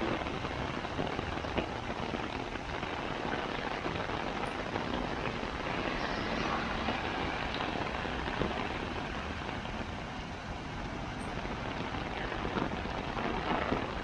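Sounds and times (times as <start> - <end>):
heavy rain: 0.0 - 14.0
road traffic: 0.0 - 14.0.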